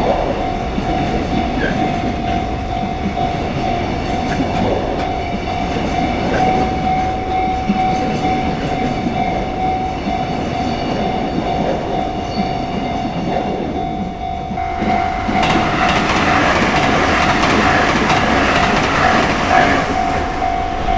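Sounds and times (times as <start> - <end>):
train passing over rails: 0.0 - 20.9
level crossing electronic warning bell: 0.2 - 20.9.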